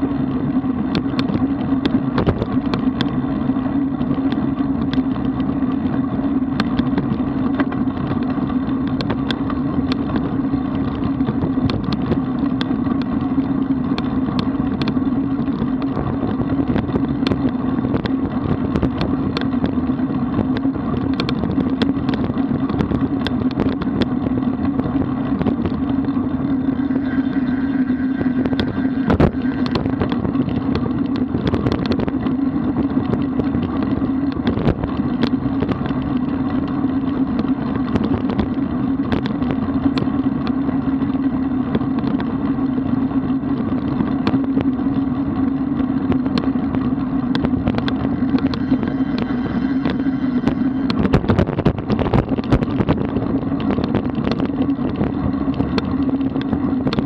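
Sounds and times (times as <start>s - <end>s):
bicycle tyre road noise: 0.0s - 57.0s
constant low hum: 0.0s - 57.0s
small clicks and rattles: 0.0s - 57.0s
wind rushing over microphone: 0.0s - 57.0s.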